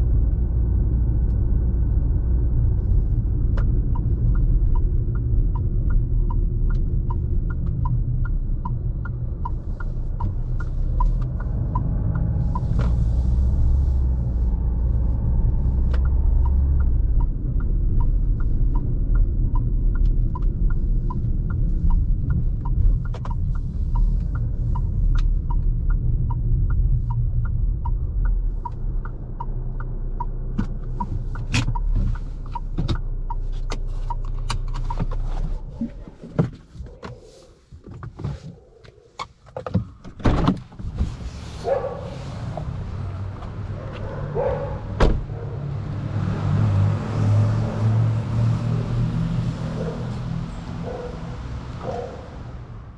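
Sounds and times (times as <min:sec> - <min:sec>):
turn signal ticking: 0:00.0 - 0:40.0, 0:41.6 - 0:52.9
diesel engine and road rumble: 0:00.0 - 0:52.9.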